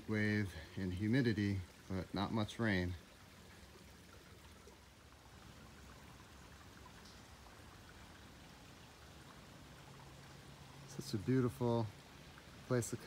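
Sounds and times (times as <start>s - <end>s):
water trickling over rocks: 0.0s - 13.0s.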